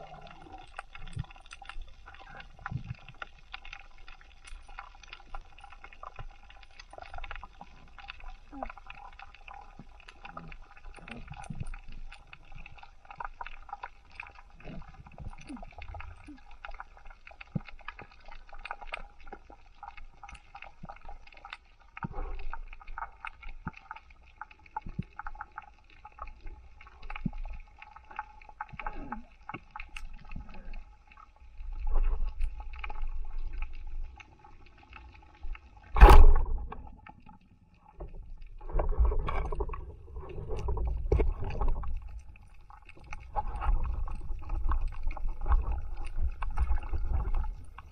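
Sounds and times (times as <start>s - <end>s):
muffled water movement: 0.0s - 47.9s.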